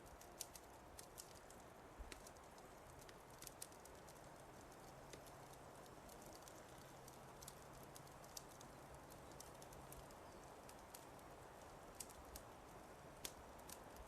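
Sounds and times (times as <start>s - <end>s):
fireplace fire crackling: 0.0s - 14.0s
low steady hiss: 0.0s - 14.0s.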